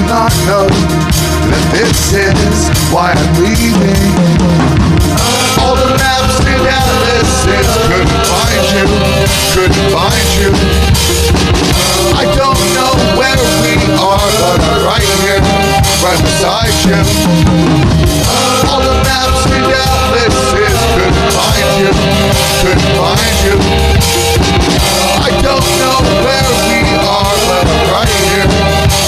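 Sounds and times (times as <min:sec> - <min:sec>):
bending lead melody: 0:00.0 - 0:29.0
drum kit beat: 0:00.0 - 0:29.0.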